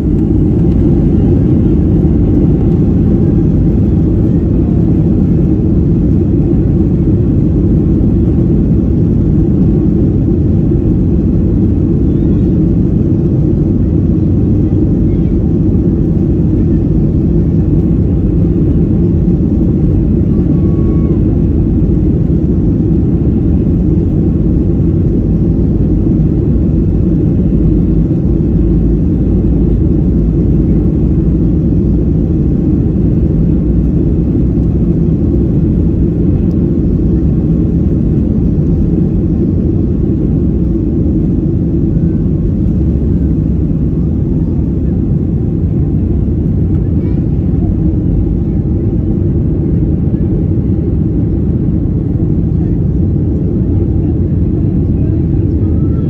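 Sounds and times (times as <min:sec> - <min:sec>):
jet engines rumbling in cabin: 0:00.0 - 0:56.0.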